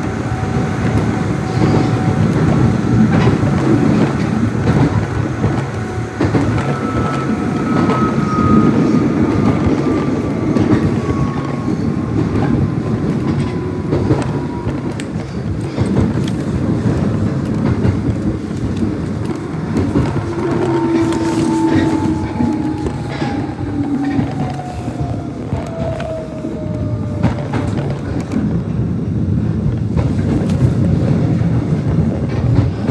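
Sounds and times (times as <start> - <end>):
rail-joint clicks: 0.0 - 28.7
train wheels rumbling on track: 0.0 - 32.9.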